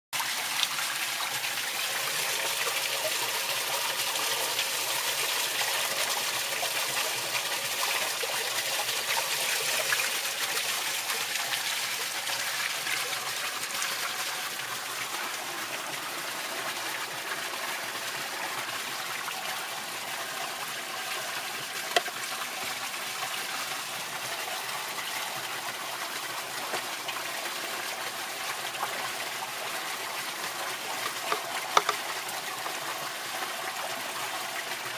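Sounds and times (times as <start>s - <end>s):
water gushing onto mesh screen: 0.2s - 34.9s.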